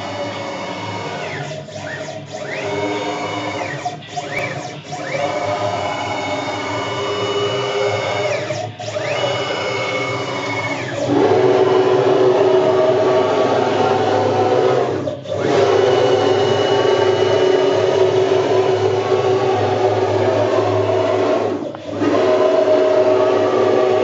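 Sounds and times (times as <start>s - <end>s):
machine hum: 0.0s - 24.0s
stepper motors whining: 0.0s - 24.0s.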